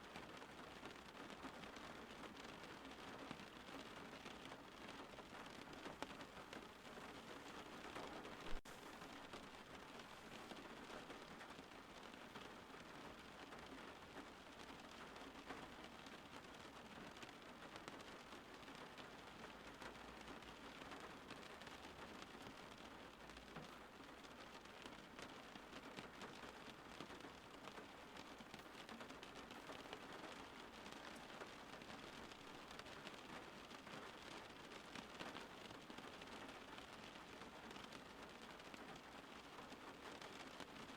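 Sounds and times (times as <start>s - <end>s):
faint steady rain: 0.0s - 40.9s.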